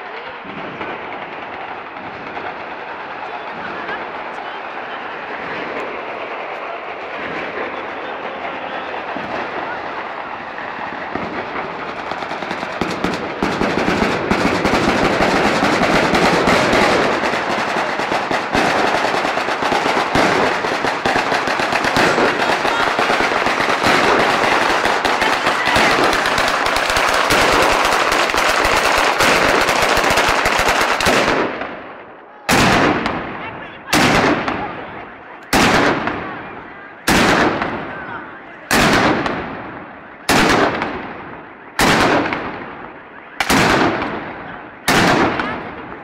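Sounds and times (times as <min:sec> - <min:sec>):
firecrackers crackling: 0:00.0 - 0:46.0.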